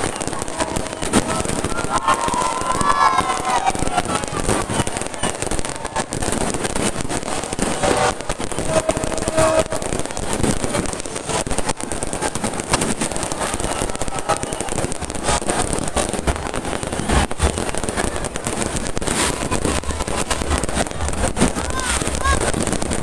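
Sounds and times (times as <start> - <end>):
fireworks bangs and pops: 0.0 - 23.0
fireworks crackling: 0.0 - 23.0.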